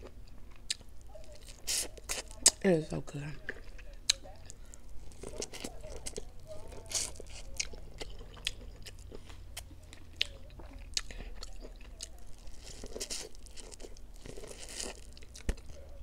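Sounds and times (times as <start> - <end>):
person chewing corn on the cob: 0.0 - 2.6, 3.5 - 16.0.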